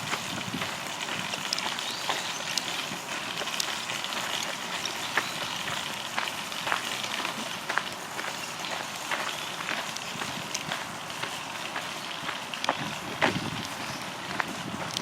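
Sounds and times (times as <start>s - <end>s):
footsteps crunching on path: 0.0s - 15.0s
outdoor hiss: 0.0s - 15.0s.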